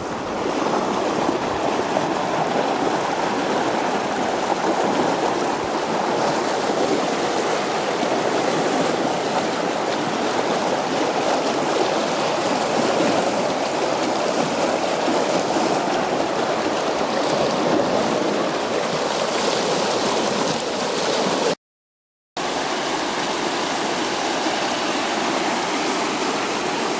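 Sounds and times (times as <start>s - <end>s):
floodwater rushing: 0.0s - 21.6s, 22.4s - 26.9s.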